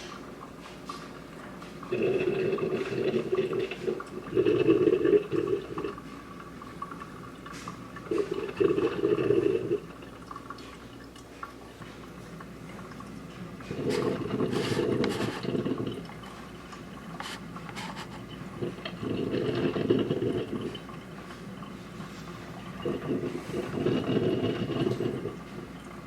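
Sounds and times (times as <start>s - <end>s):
running water: 0.0s - 26.0s
water pouring and gurgling: 0.0s - 26.0s.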